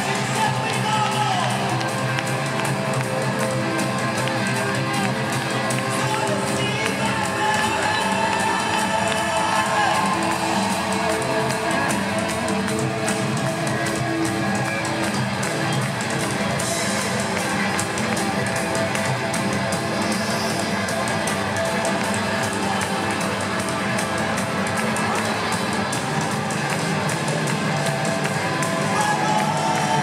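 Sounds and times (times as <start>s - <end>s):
drums: 0.0s - 30.0s
keyboard: 0.0s - 30.0s.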